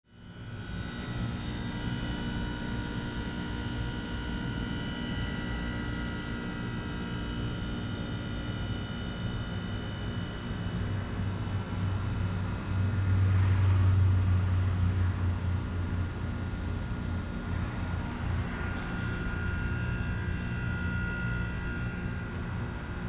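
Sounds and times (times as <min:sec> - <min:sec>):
heat pump humming and whining: 0:00.1 - 0:23.0.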